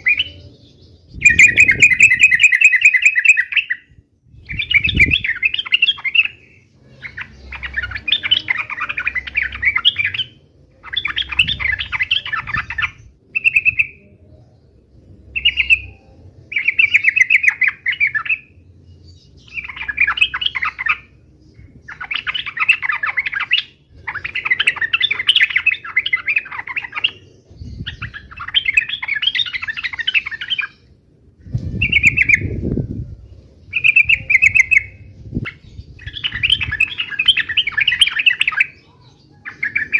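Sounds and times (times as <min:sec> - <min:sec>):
bulbul singing chattering song: 0:00.0 - 0:39.9.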